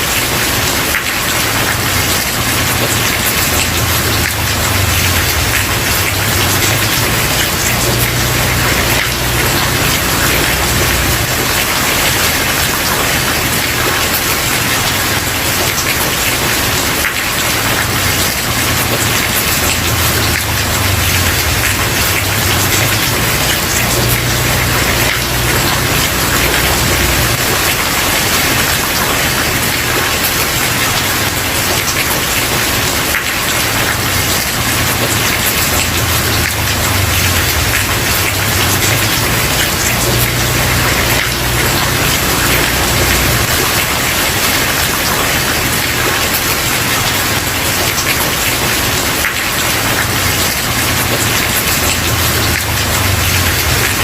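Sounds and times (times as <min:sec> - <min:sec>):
rain on a wooden porch: 0:00.0 - 0:54.0.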